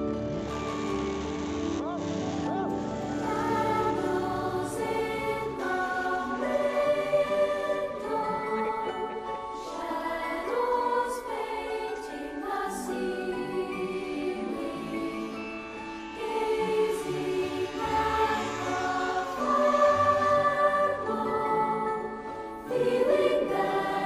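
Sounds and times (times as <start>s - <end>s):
voices singing over held chords: 1.9s - 24.0s.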